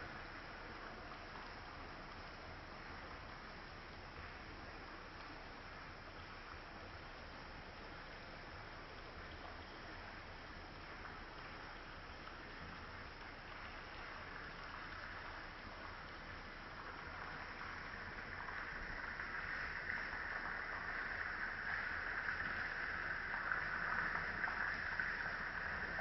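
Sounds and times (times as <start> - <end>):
stream babbling over rocks: 0.0 - 26.0.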